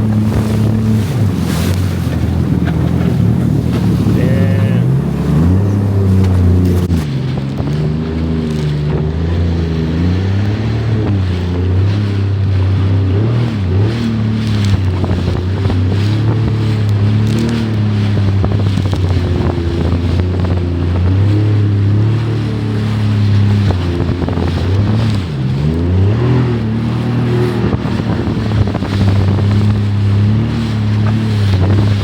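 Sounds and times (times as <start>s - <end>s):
jet ski engine running: 0.0s - 32.0s.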